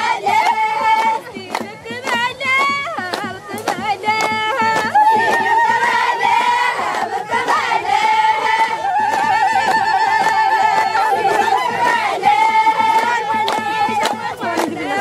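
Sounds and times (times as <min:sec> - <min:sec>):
hand-clapping: 0:00.0 - 0:15.0.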